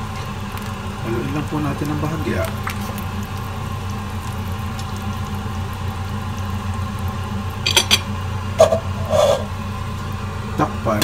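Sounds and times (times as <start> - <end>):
pot of broth simmering: 0.0 - 10.9.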